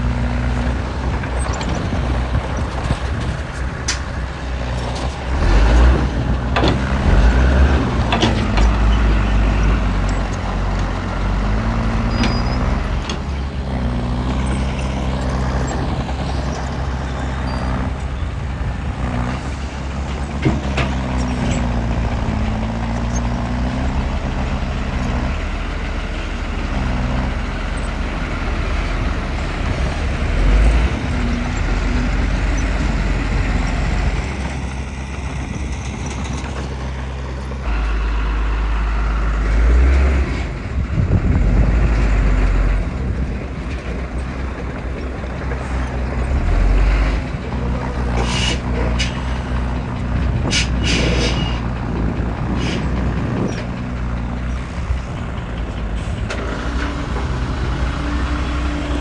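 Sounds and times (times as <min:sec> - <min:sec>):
heavy diesel engine working: 0:00.0 - 0:59.0.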